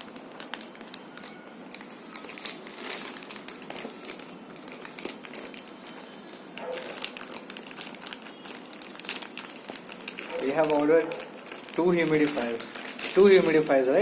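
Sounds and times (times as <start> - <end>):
packet crinkling and rustling: 0.0 - 14.0.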